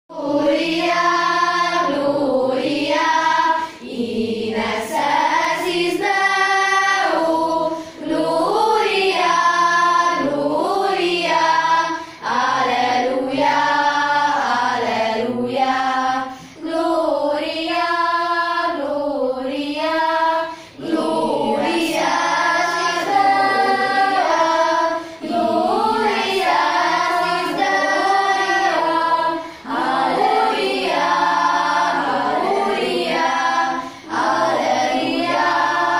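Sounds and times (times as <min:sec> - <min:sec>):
girls choir singing: 0:00.1 - 0:35.9.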